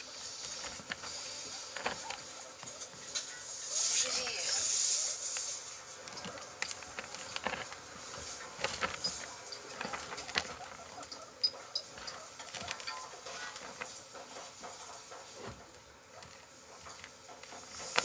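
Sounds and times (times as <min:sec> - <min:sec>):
guinea pig high peeps: 0:00.0 - 0:18.0
guinea pigs rustling in bedding: 0:00.0 - 0:18.0.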